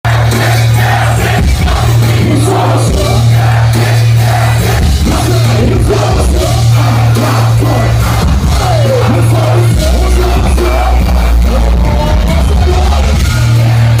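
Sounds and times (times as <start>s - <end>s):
booming bass beat: 0.0s - 14.0s
crowd voices: 0.0s - 14.0s
rapped vocals: 0.0s - 14.0s.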